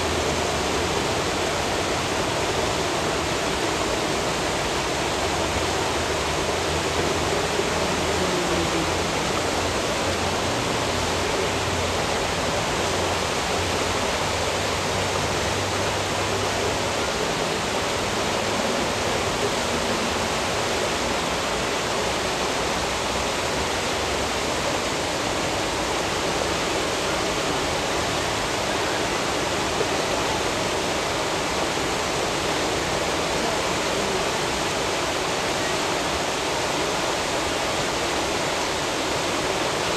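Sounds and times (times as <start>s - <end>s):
rushing churning water: 0.0s - 39.9s.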